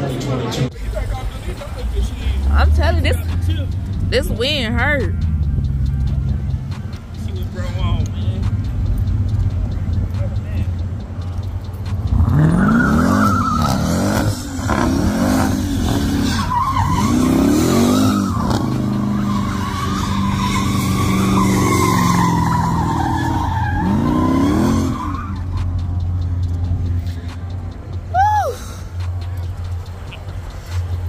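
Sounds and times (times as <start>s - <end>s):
car engine revving: 0.0s - 31.0s
tyres squealing: 0.8s - 31.0s.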